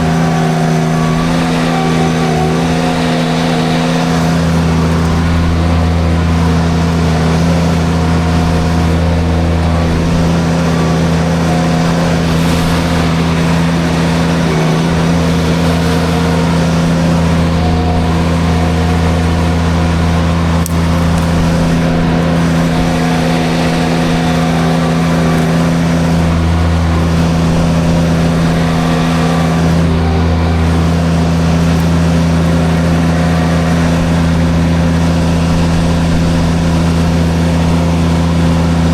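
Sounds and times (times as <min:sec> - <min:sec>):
engine drone: 0:00.0 - 0:38.9
mulcher mechanical rush: 0:00.0 - 0:38.9.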